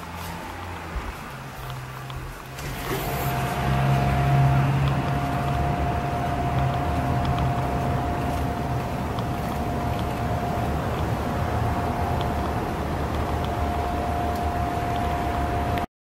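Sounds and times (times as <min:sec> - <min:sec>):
distant traffic rumbling: 0:00.0 - 0:15.9
faint steady whine: 0:02.2 - 0:15.9.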